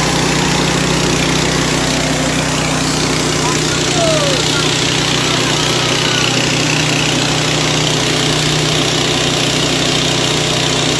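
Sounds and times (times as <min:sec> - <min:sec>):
grinding mill rattling: 0:00.0 - 0:10.9
petrol engine humming: 0:00.0 - 0:10.9.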